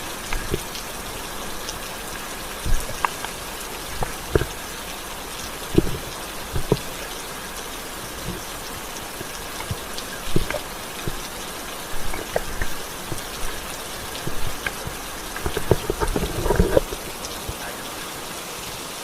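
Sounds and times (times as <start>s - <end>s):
drips and knocks: 0.0s - 18.4s
rain hiss: 0.0s - 19.0s.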